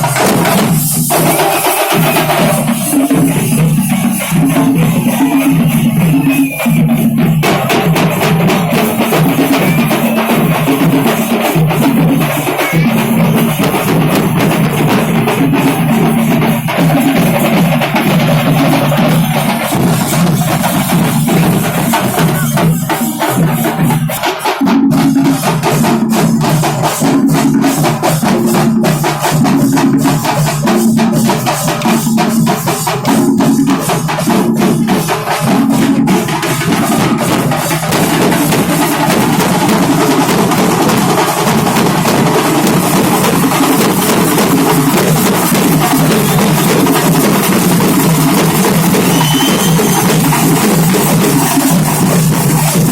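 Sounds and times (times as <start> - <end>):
fast festival drumming: 0.0 - 52.9.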